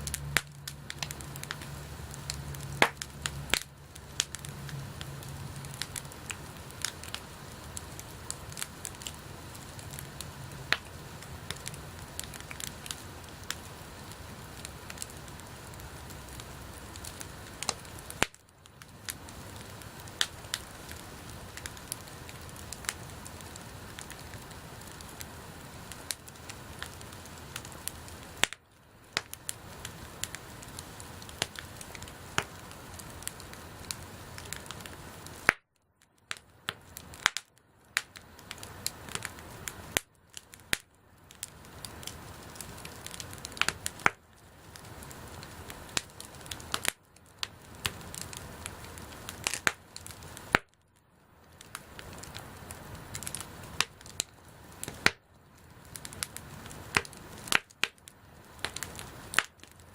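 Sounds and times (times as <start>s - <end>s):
bonfire crackling and hissing: 0.0s - 59.9s.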